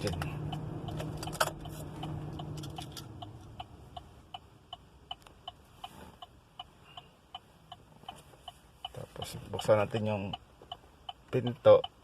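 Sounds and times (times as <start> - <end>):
engine low hum: 0.0 - 10.8
electronic ticking: 0.0 - 12.0.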